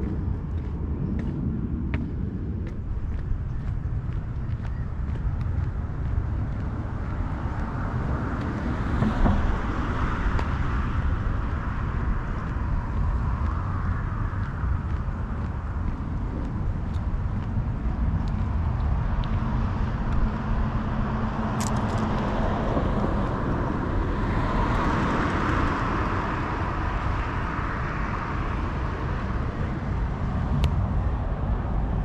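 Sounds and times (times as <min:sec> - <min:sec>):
car passing: 0:00.0 - 0:32.0
steady low rumble: 0:00.0 - 0:32.0.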